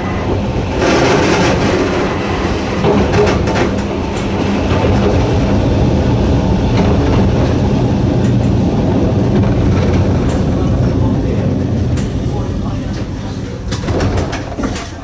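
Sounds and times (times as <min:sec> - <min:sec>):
electric train motor hum: 0:00.0 - 0:15.0
wheels clicking over rail joints: 0:00.3 - 0:15.0.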